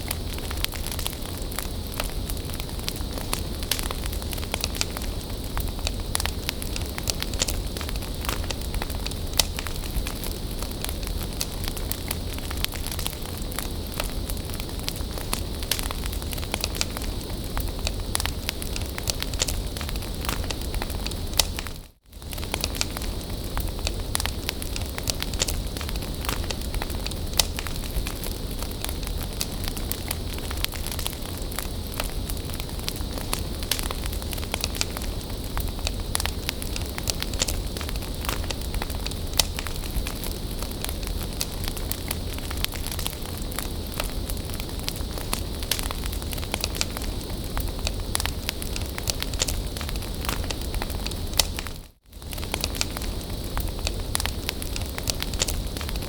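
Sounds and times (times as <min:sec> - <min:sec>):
bonfire crackling and popping: 0:00.0 - 0:56.0
low rumble of flame: 0:00.0 - 0:56.0.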